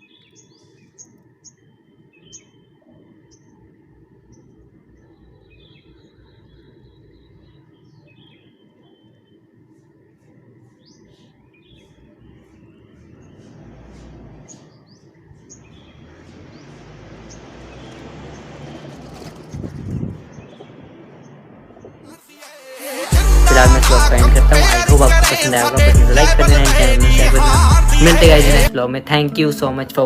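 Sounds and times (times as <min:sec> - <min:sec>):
birds chirping: 0:00.0 - 0:22.2, 0:22.9 - 0:30.0.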